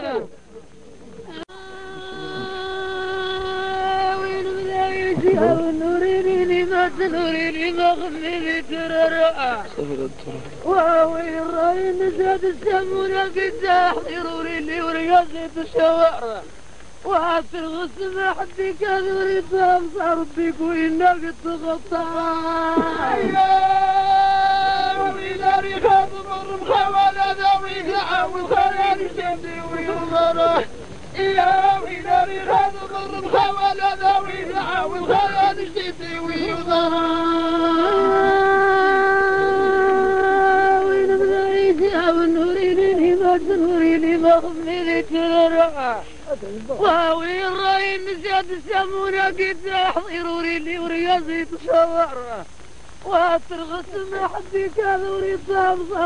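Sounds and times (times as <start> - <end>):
man chanting: 1.3 - 56.0.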